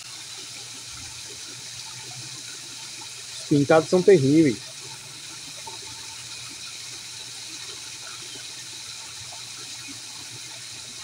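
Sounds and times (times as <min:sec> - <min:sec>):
small waterfall splashing into pond: 0:00.0 - 0:11.0.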